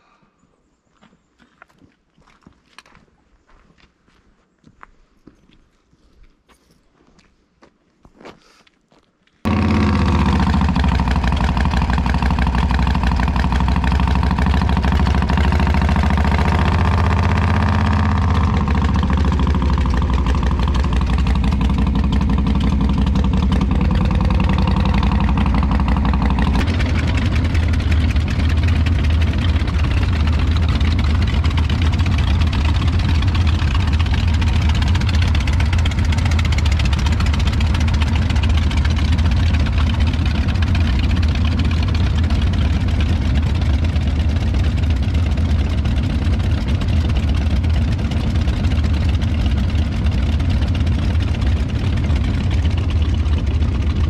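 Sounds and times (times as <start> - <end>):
motorcycle engines idling: 9.5 - 54.0.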